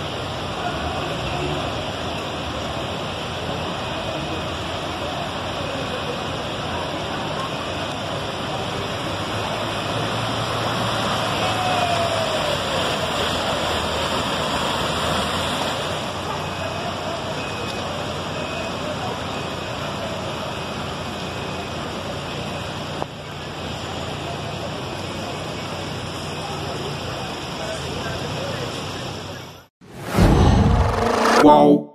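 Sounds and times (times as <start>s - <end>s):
heavy rain: 0.0s - 29.3s
cars driving through water: 0.0s - 29.7s
running floodwater: 0.0s - 29.7s.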